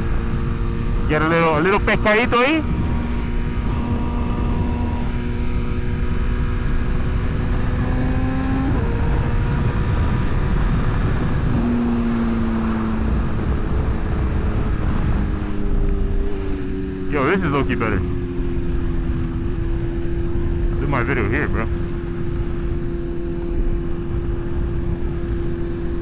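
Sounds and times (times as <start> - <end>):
wind rumble on microphone: 0.0 - 17.2, 17.8 - 26.0
motorcycle engine cruising: 0.0 - 26.0.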